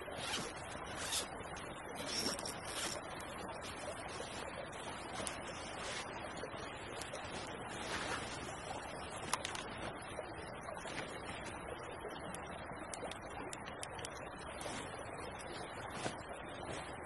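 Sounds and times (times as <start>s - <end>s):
creek flowing: 0.0s - 17.0s.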